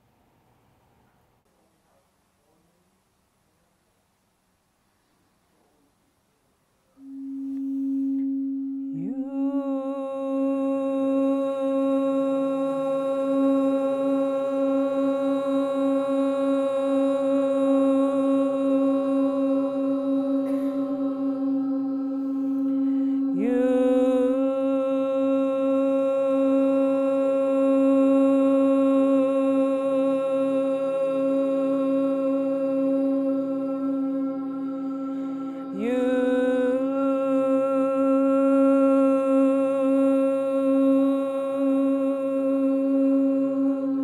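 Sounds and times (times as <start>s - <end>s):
person chanting a long note: 7.0s - 44.0s
singing bowl tone: 7.0s - 44.0s.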